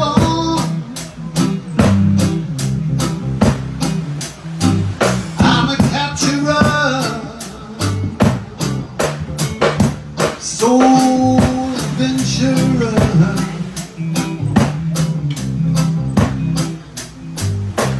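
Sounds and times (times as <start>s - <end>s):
drum kit beat: 0.0s - 17.9s
guitar: 0.0s - 17.9s
low bass line: 0.0s - 17.9s.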